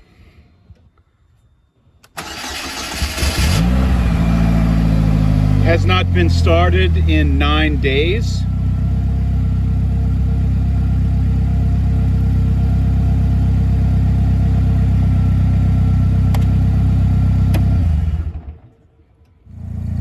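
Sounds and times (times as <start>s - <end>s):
car engine idling: 2.2s - 20.0s.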